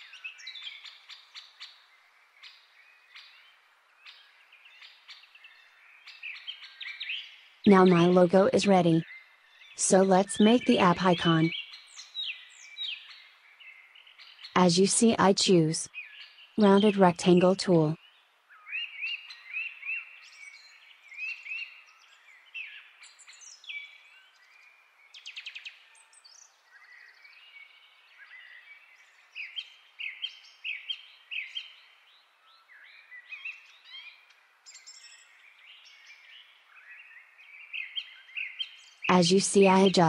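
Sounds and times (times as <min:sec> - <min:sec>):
songbirds chirping: 0:00.0 - 0:40.0.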